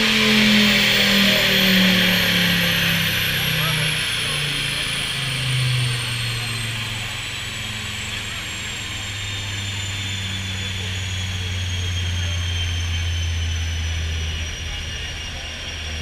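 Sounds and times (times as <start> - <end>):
high whine falling in pitch: 0.0 - 16.0
vehicle engine droning: 0.0 - 16.0.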